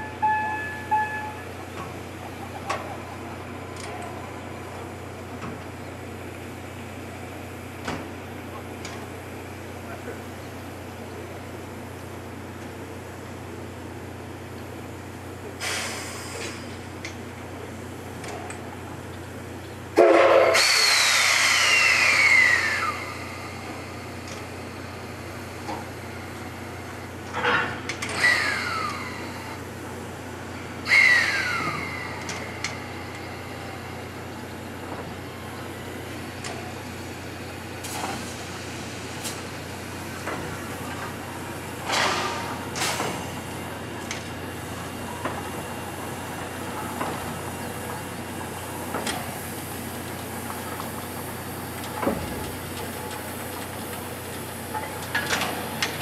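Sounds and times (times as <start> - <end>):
steam locomotive hissing steam: 0.0 - 27.3, 28.0 - 56.0.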